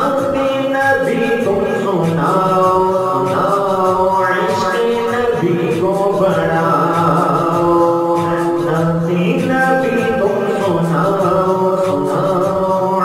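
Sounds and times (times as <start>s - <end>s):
low vocal drone: 0.0s - 13.0s
person singing unaccompanied: 0.0s - 13.0s.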